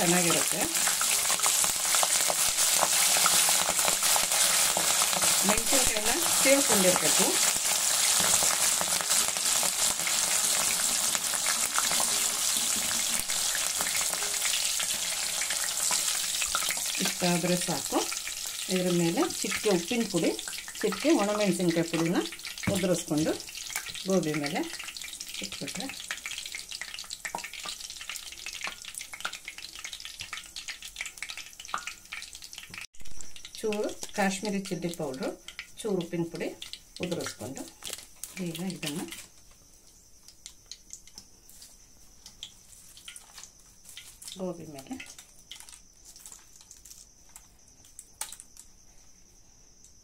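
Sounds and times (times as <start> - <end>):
deep-frying sizzle with pops: 0.0 - 50.0.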